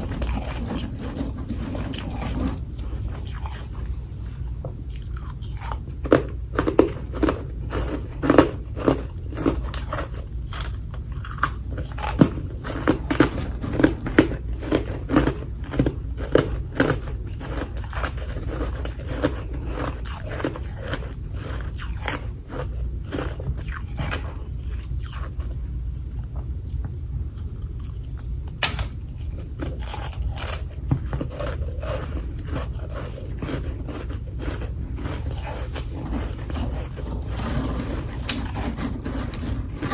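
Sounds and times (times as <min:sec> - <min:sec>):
person crunching frost: 0:00.0 - 0:25.4, 0:29.1 - 0:39.9.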